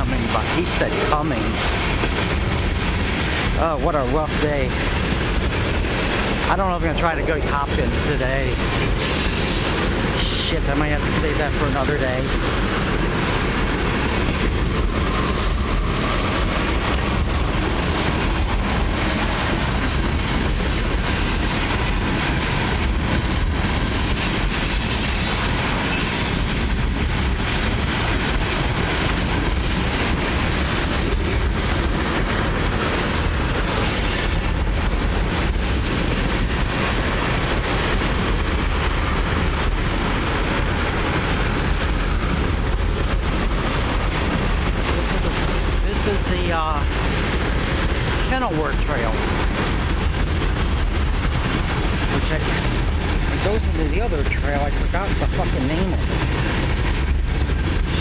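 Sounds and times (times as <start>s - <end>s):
freight train rolling past: 0.0s - 58.0s
steel wheels clattering on rails: 0.0s - 58.0s.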